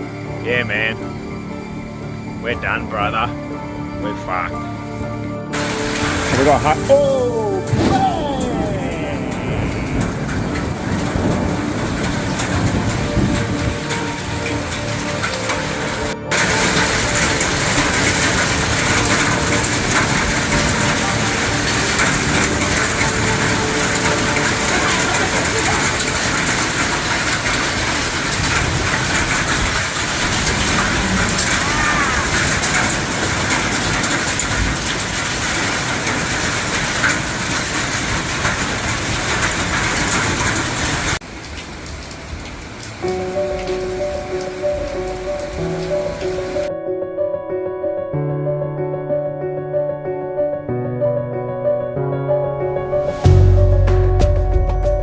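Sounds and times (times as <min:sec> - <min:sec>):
heavy rain pouring: 0:00.0 - 0:46.7, 0:52.9 - 0:55.0.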